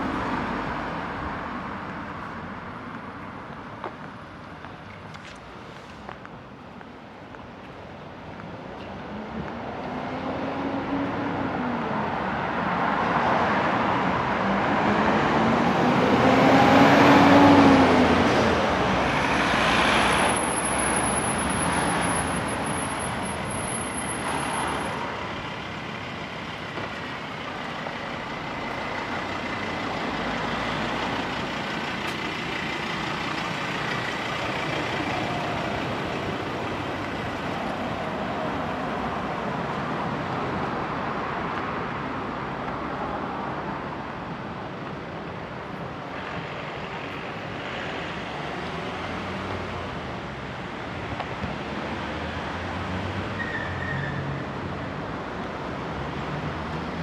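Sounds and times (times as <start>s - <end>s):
street traffic noise: 0.0s - 57.0s.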